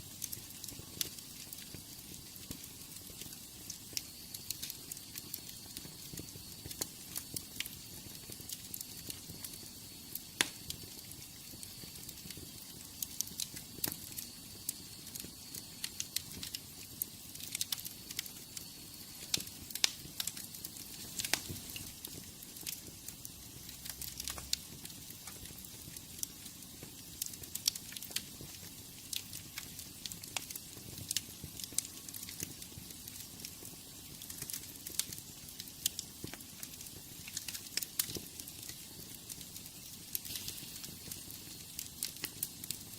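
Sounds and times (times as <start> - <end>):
fireplace fire crackling and popping: 0.0 - 42.9
steady hiss: 0.0 - 42.9.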